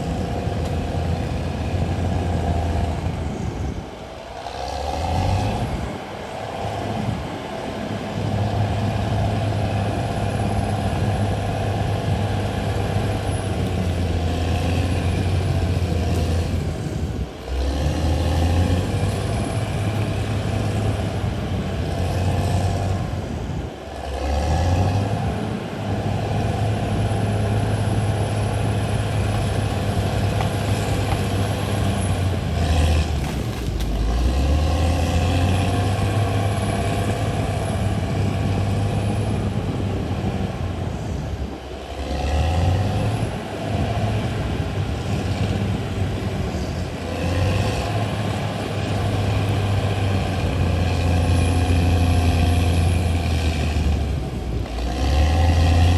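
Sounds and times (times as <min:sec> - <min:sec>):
bulldozer diesel engine: 0:00.0 - 0:55.9.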